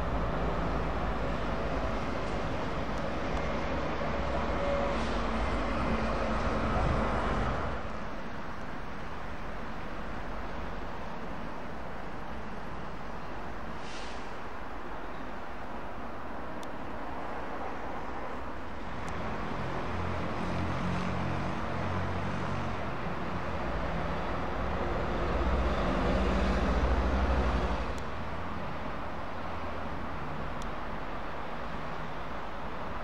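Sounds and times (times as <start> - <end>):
heavy trucks driving past: 0.0 - 33.0
steady road traffic: 0.0 - 33.0.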